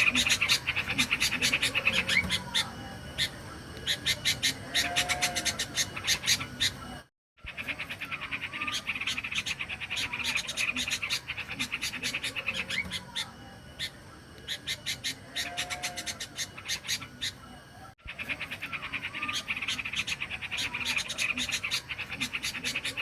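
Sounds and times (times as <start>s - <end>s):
recorded bird calls chattering: 0.0s - 23.0s.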